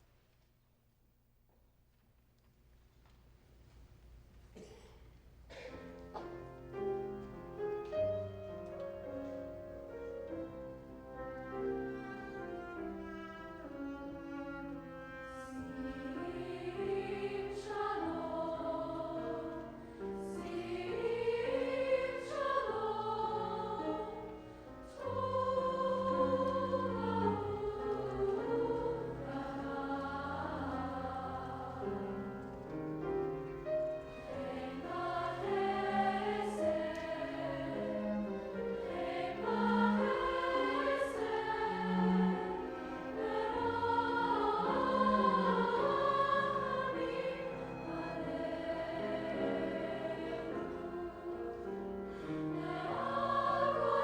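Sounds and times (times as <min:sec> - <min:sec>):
choir singing choral piece: 0:05.5 - 0:54.0.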